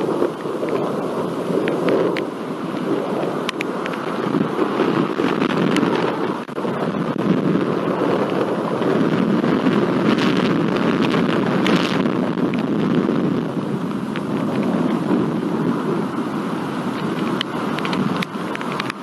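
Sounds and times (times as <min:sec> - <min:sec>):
raindrops ticking: 0:00.0 - 0:15.9, 0:16.8 - 0:19.0
rain and wind rushing: 0:00.0 - 0:19.0.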